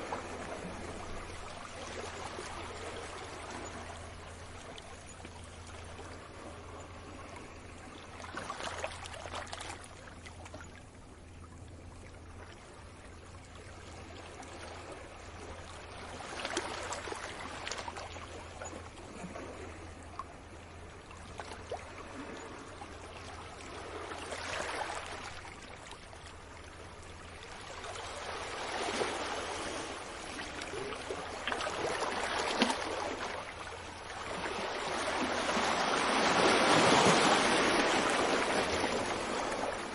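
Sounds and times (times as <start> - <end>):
small waves washing onto beach: 0.0 - 10.6, 12.4 - 39.9.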